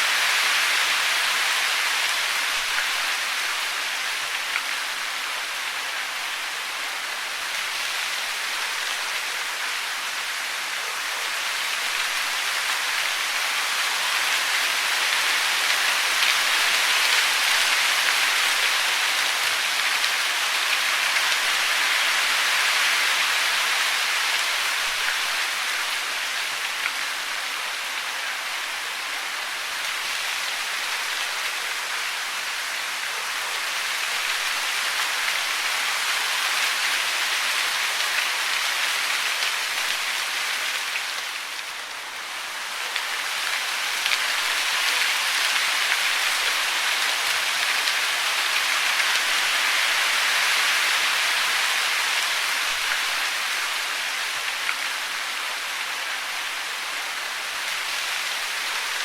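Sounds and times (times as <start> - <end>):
hiss of falling water: 0.0 - 59.0.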